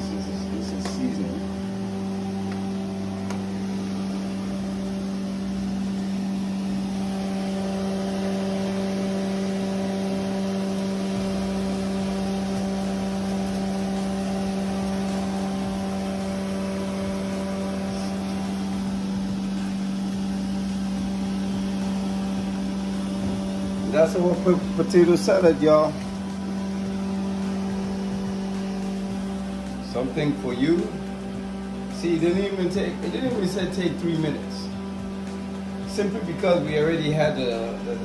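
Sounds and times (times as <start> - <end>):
machine humming: 0.0 - 38.0.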